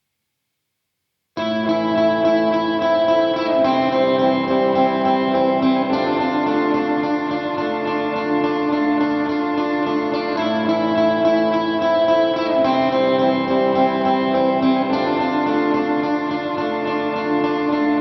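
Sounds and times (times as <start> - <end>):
guitar music with slow chords: 1.4 - 18.0.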